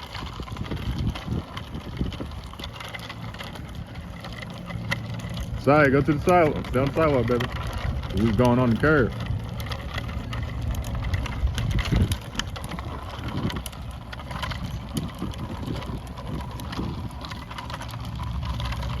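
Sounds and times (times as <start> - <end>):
bicycle tyre noise on pavement: 0.0 - 19.0
bike clicks and rattles: 0.0 - 19.0
wind rumbling on microphone: 0.0 - 19.0.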